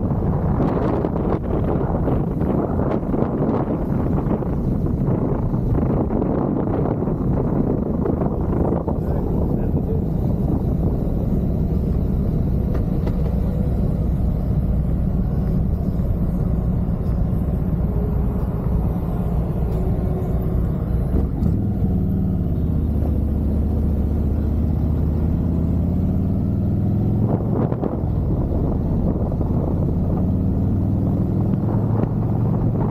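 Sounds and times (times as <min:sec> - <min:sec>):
motorcycle engine: 0:00.0 - 0:32.9
wind noise: 0:00.0 - 0:32.9.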